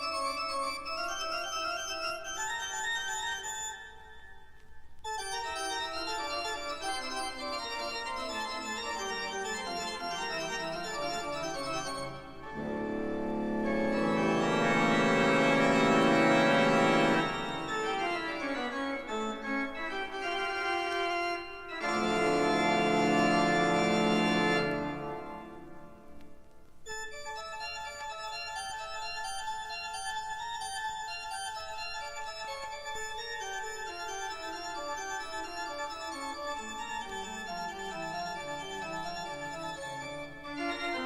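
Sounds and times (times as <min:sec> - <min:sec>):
pipe organ music: 0:00.0 - 0:04.4, 0:05.0 - 0:41.0.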